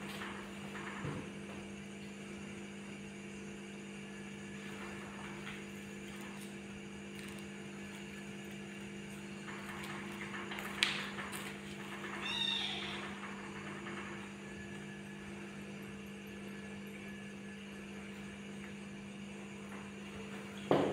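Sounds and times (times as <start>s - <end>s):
motor humming: 0.0s - 20.9s.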